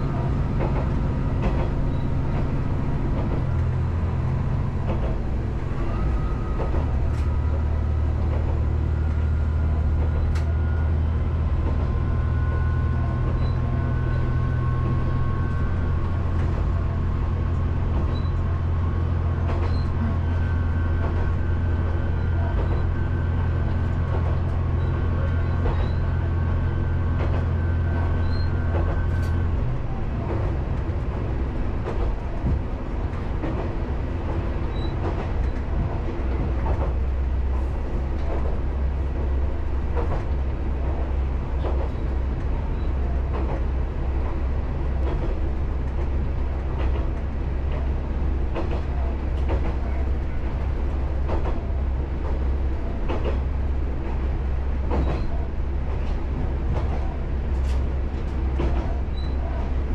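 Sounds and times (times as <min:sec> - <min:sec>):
diesel railcar engine drone: 0:00.0 - 0:59.9
rail-joint clicks: 0:00.0 - 0:59.9.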